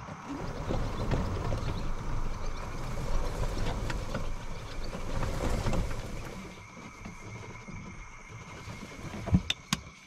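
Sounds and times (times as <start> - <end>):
golf cart rumbling: 0.0 - 9.9
cart body rattling: 0.0 - 10.0.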